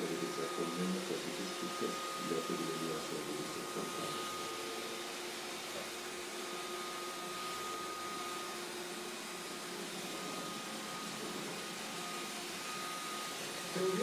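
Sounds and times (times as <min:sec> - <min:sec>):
robot vacuum whirring: 0:00.0 - 0:14.0
thin high whine: 0:00.0 - 0:14.0.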